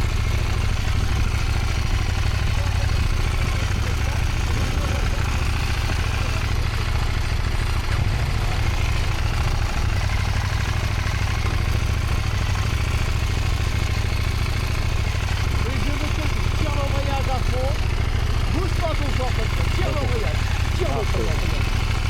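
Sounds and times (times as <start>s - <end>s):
motorcycle engine low rumble: 0.0s - 22.0s.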